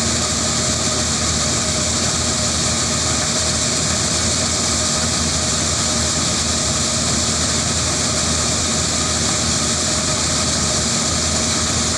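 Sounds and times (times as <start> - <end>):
harvesting machine engine hum: 0.0 - 11.9.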